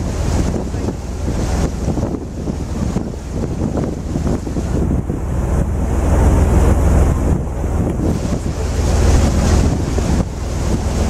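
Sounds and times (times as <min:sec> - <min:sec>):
boat rumble: 0:00.0 - 0:11.0
rushing water: 0:00.0 - 0:11.0
wind buffeting microphone: 0:00.0 - 0:11.0.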